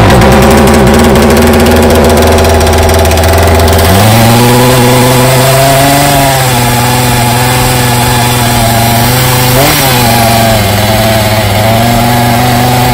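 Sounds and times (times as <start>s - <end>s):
chainsaw engine running: 0.0s - 12.9s.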